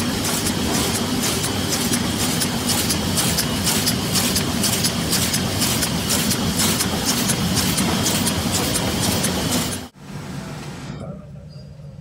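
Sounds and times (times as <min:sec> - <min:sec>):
laminating machine whirring: 0:00.0 - 0:10.0
regular mechanical clatter: 0:00.0 - 0:10.0.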